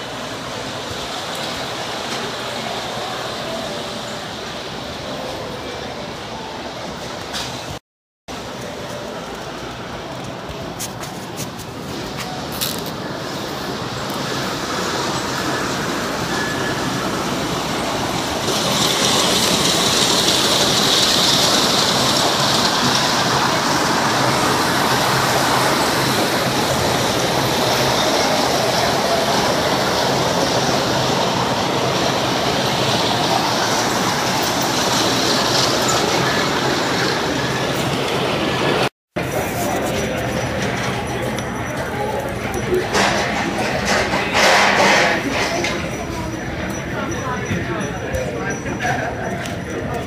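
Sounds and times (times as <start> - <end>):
model train wheels on track: 6.0 - 50.0.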